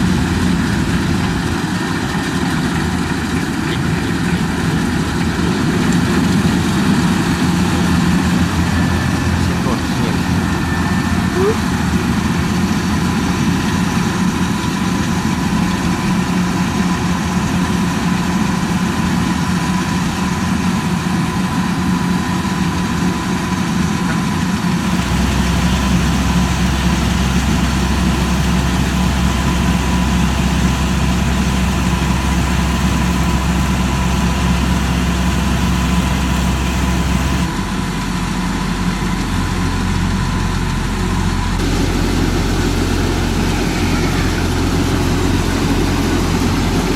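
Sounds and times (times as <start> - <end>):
harvester engine running: 0.0 - 46.9
high whine: 5.0 - 22.5, 24.8 - 46.9.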